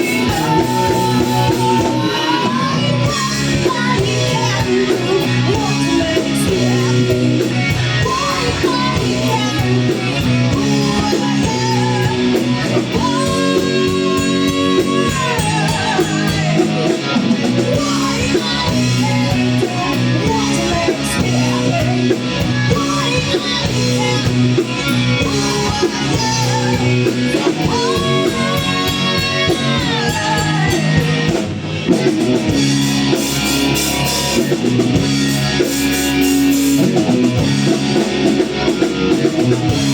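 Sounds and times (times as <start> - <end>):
person singing: 0.0 - 32.0
drums: 0.0 - 39.9
electric guitar: 0.0 - 39.9.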